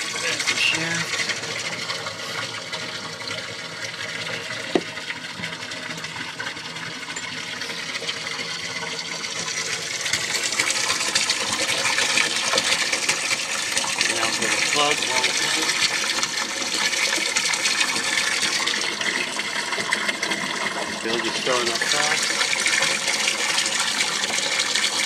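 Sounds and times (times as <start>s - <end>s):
water pouring into boat bilge: 0.0s - 25.0s.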